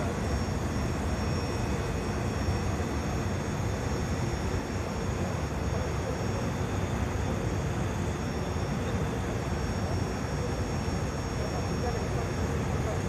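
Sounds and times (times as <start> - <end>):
engine running with high whine: 0.0 - 13.0.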